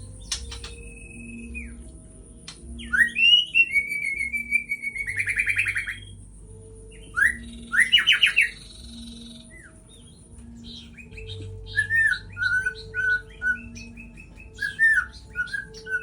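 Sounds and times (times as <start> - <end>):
bird whistling and trilling: 0.2 - 1.8, 2.8 - 6.1, 7.0 - 16.0.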